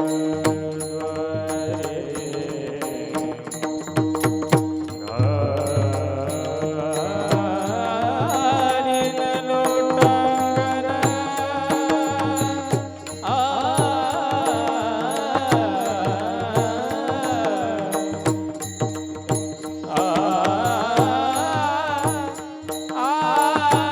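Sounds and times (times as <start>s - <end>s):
man singing with vibrato: 0.0s - 23.9s.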